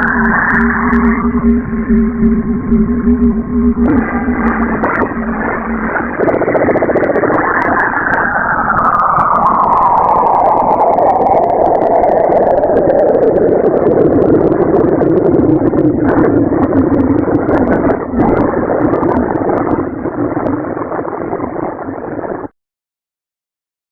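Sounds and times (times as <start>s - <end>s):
faint crackles: 0.0s - 22.5s
synthesized rumbling drone: 0.0s - 22.5s.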